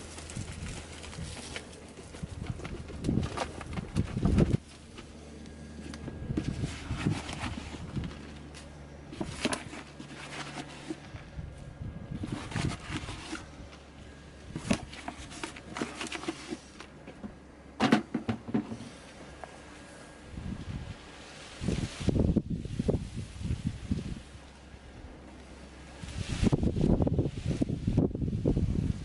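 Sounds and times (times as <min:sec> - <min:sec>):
compost rustling and pattering: 0:00.0 - 0:29.0.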